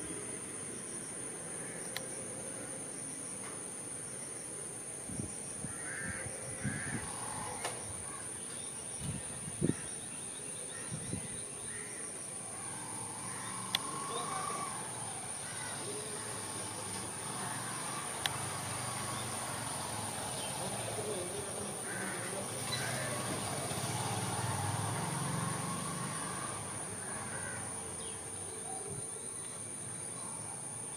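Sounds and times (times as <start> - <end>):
distant birds calling: 5.4 - 30.7.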